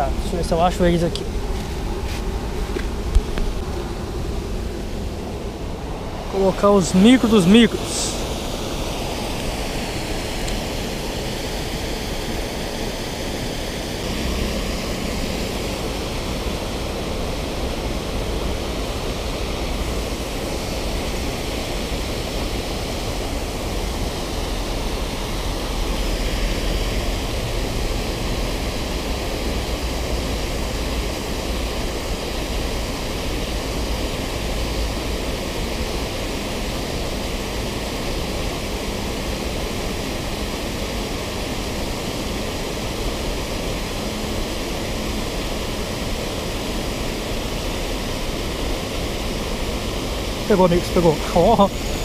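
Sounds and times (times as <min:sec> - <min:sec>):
river water rushing over weir: 0:00.0 - 0:52.0.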